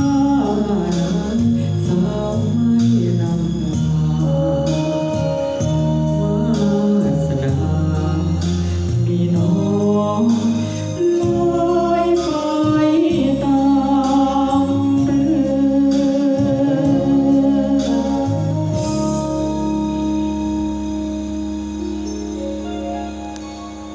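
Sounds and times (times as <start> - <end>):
man singing into microphone: 0.0 - 20.8
karaoke backing music: 0.0 - 23.9.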